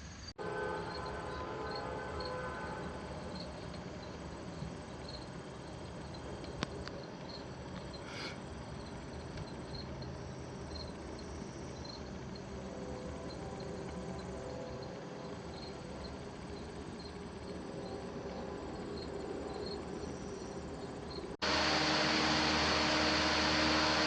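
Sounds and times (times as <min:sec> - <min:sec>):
cricket chirping: 0:00.0 - 0:21.4
steady background hum: 0:00.1 - 0:24.0.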